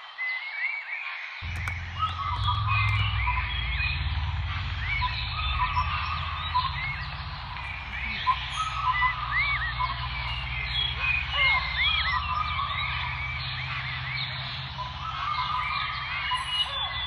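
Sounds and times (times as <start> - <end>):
birds chirping and calling: 1.4 - 17.0
steady low rumble: 1.4 - 17.0.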